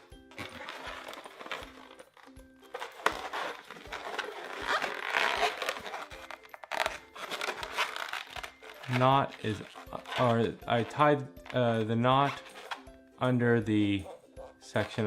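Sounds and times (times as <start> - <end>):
balloon rubbing and squeaking: 0.0 - 13.0, 13.8 - 15.0
balloon crinkling and scraping: 0.0 - 15.0
faint background music: 0.0 - 15.0.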